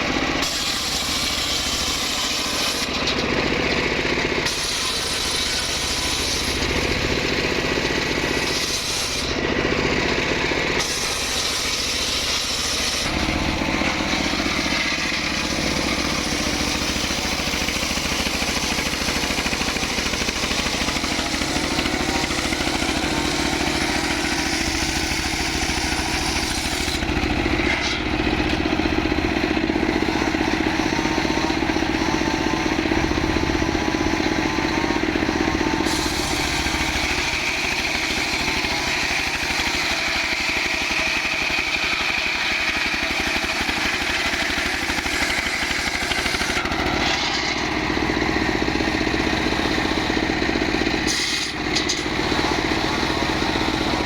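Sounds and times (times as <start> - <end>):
engine-powered wood saw running: 0.0 - 54.0.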